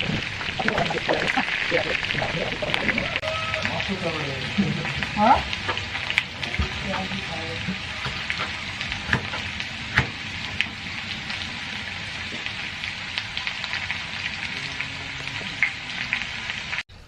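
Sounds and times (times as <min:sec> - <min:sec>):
food sizzling in hot oil: 0:00.0 - 0:16.8.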